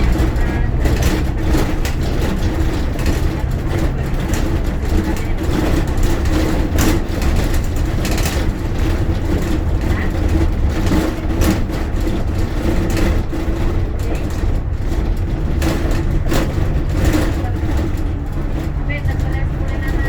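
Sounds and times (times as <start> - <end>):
bus engine drone: 0.0 - 20.0
road noise: 0.0 - 20.0
sharp rattles: 0.0 - 20.0.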